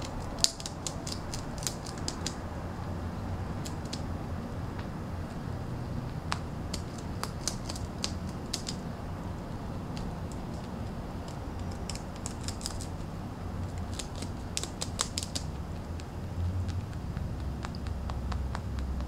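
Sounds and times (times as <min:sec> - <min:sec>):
rabbit gnawing twigs: 0:00.0 - 0:19.0.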